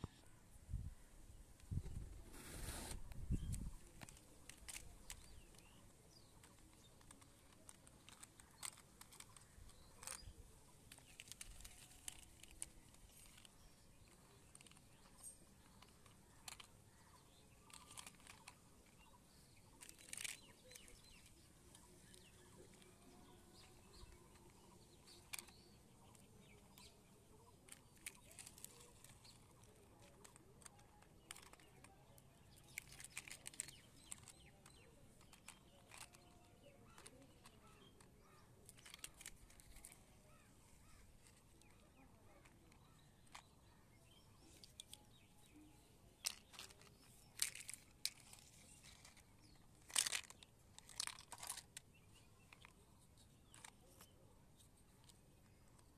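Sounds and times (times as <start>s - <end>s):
plastic toy cars clicking and tapping: 3.5s - 55.9s.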